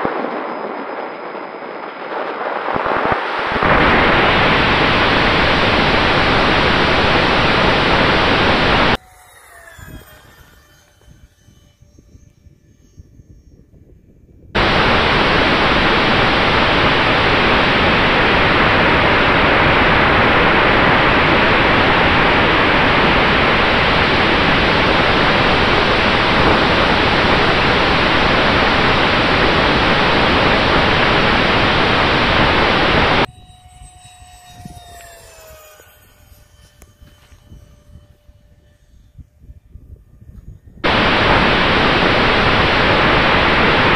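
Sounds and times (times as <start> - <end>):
electric ducted fans rushing: 0.0 - 43.9
faint steady whine: 0.0 - 43.9
jet fan whine flying past: 0.0 - 43.9.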